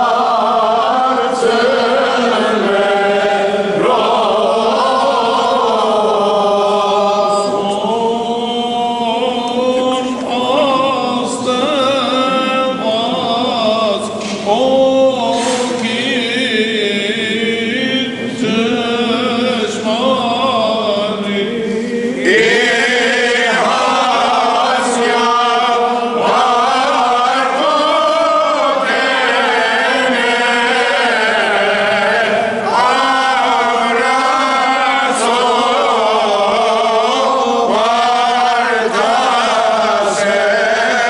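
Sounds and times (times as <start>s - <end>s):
choir chanting a hymn: 0.0s - 41.0s.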